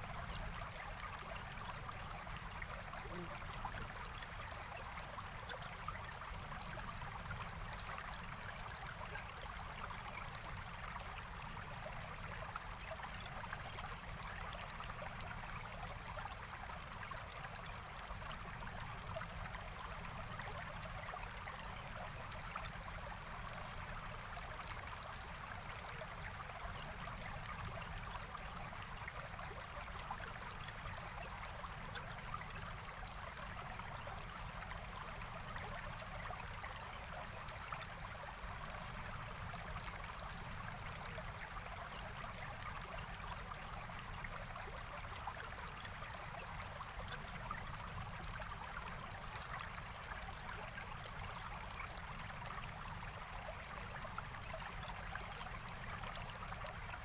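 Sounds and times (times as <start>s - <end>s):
forest stream running: 0.0s - 57.0s.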